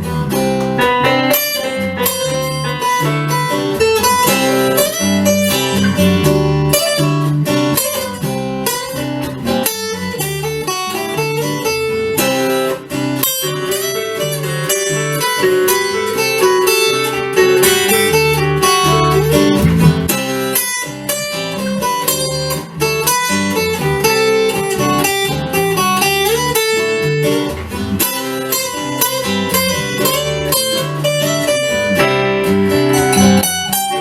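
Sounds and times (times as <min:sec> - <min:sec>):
acoustic guitar plucked and strummed: 0:00.0 - 0:34.0.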